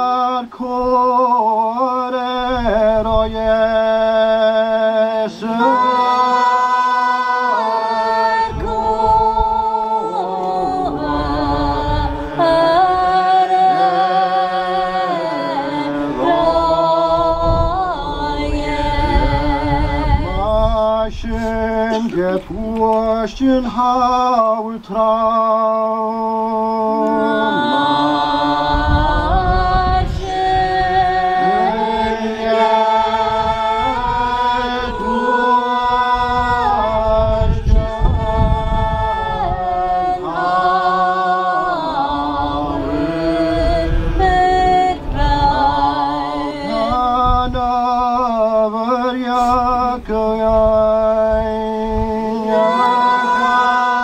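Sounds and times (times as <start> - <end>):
congregation singing unaccompanied: 0.0 - 54.0.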